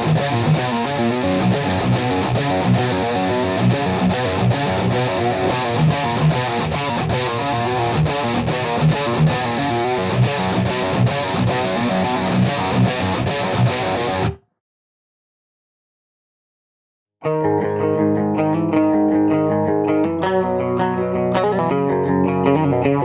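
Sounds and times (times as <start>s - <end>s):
distorted electric guitar riff: 0.0s - 14.5s, 17.2s - 23.0s.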